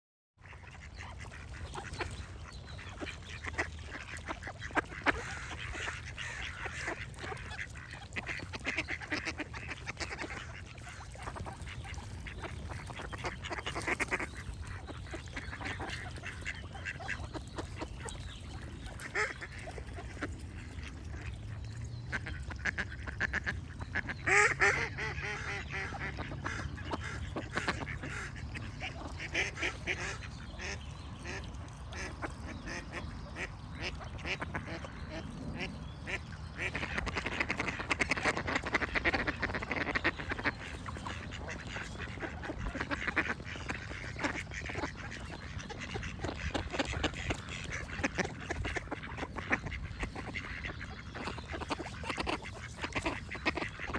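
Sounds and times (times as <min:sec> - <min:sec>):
ducks quacking: 0:00.4 - 0:53.9
songbirds singing: 0:00.4 - 0:53.9.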